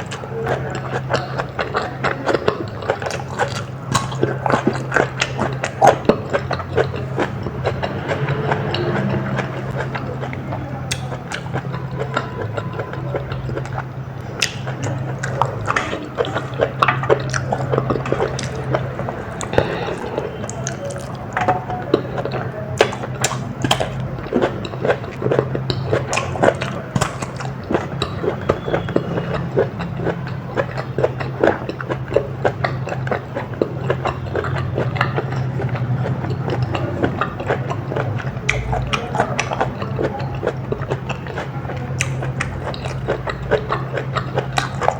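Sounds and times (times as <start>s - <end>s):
person biting and chewing food: 0.0s - 44.9s
steady low hum: 0.0s - 44.9s.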